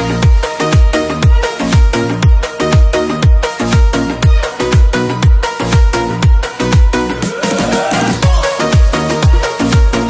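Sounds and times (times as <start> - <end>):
pop dance music: 0.0 - 10.0
deep kick drum: 0.2 - 10.0.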